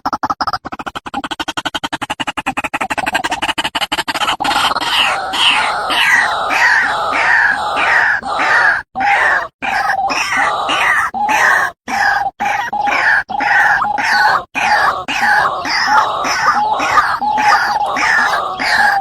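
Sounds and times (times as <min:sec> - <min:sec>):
waterhen harsh calls: 0:02.4 - 0:19.0.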